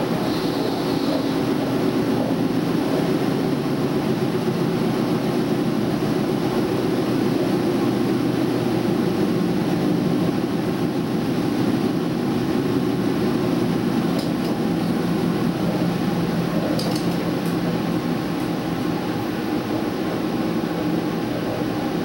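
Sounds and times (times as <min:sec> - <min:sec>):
train engine drone: 0:00.0 - 0:22.0.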